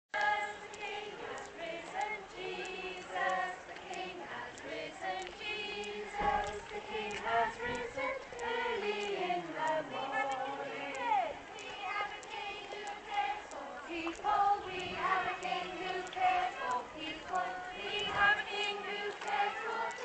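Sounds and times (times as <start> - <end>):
young children singing: 0.2 - 20.0.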